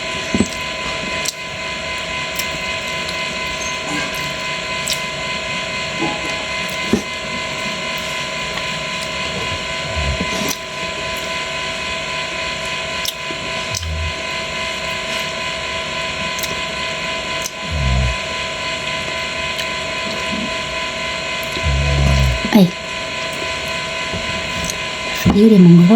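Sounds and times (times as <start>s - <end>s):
constant hum: 0.0s - 25.9s.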